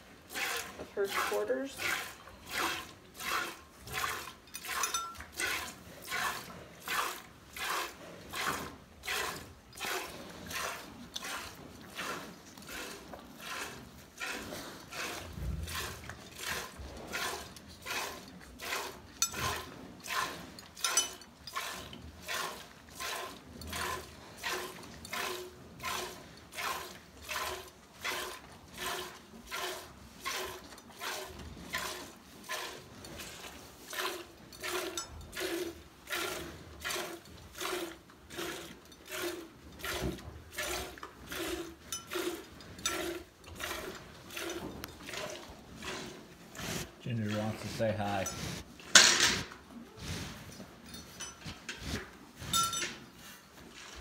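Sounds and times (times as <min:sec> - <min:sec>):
milk squirting into metal pail: 0:00.3 - 0:46.0.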